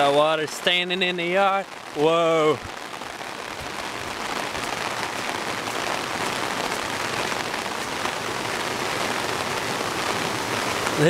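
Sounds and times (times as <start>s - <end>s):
heavy rain falling: 0.0s - 11.0s
water pouring down a ditch: 0.0s - 11.0s.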